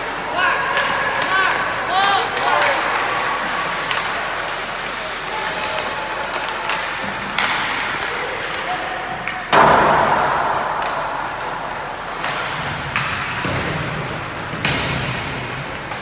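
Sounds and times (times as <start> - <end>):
clacks of sticks and puck: 0.0 - 16.0
puck hitting boards: 0.4 - 16.0.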